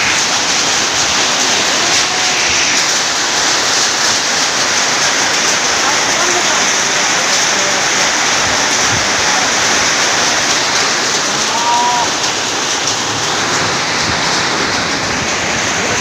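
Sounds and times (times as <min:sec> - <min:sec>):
heavy hail and rain: 0:00.0 - 0:16.0.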